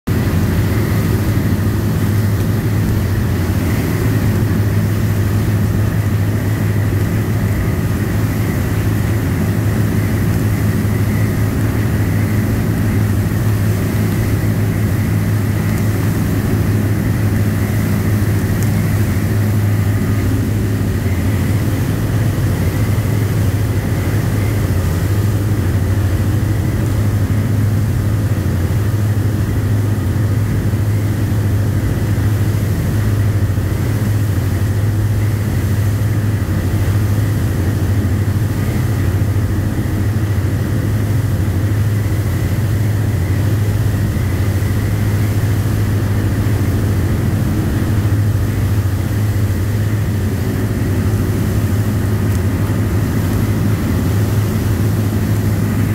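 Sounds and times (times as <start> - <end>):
boat engines droning: 0.1 - 55.9
rushing water: 0.1 - 55.9
wind noise: 0.1 - 55.9.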